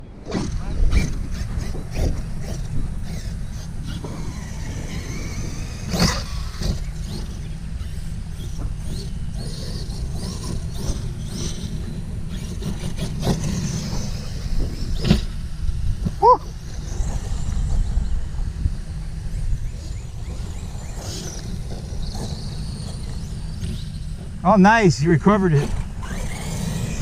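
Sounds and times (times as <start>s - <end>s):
rc car motor whine: 0.3s - 27.0s.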